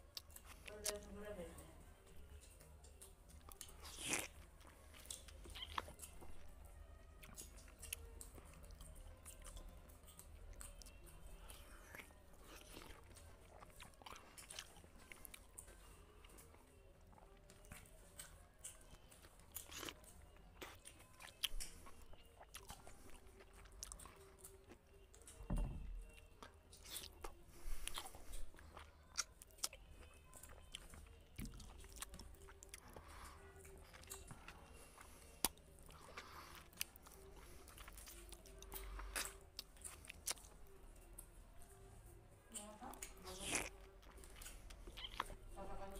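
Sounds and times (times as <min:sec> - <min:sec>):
person chewing: 0:00.0 - 0:01.1, 0:02.1 - 0:25.4, 0:26.0 - 0:45.6.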